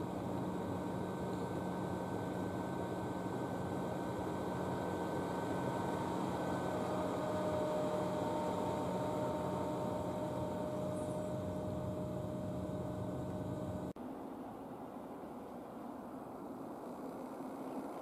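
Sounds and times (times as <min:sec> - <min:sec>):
electric train equipment hum: 0:00.0 - 0:18.0.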